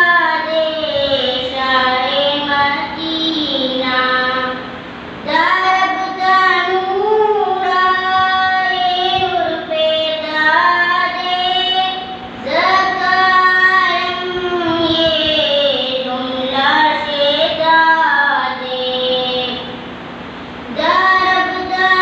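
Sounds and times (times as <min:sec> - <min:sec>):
boy singing unaccompanied: 0:00.0 - 0:19.8, 0:20.7 - 0:22.0.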